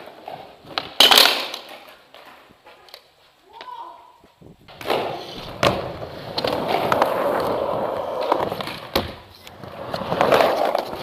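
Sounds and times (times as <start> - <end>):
skateboard clacking on ground: 0.0 - 3.7, 4.7 - 11.0
skateboard wheels rolling on concrete: 0.0 - 11.0.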